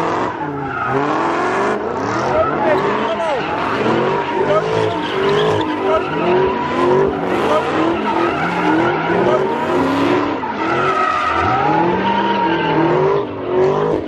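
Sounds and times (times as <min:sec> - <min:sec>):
car engine revving: 0:00.0 - 0:14.0
tyres screeching: 0:00.0 - 0:14.0.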